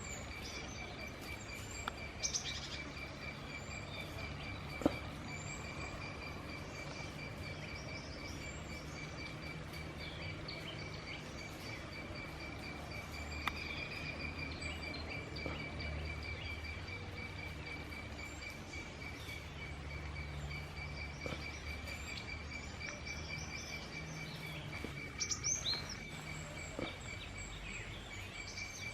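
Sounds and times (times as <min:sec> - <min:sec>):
bird chirps: 0:00.0 - 0:28.9.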